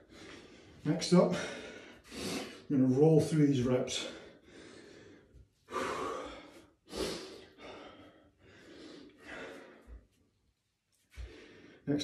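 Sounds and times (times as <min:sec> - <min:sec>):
man breathing hard: 0:00.0 - 0:02.7, 0:04.0 - 0:10.2, 0:11.1 - 0:11.9.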